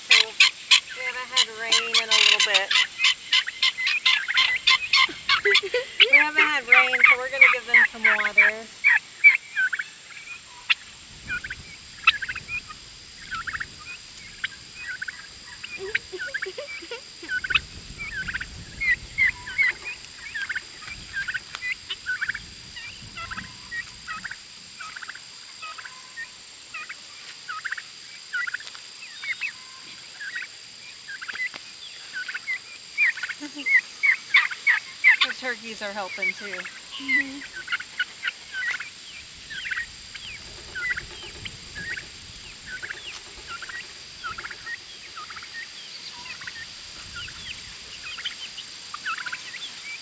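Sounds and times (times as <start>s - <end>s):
turkeys yelping: 0.0s - 50.0s.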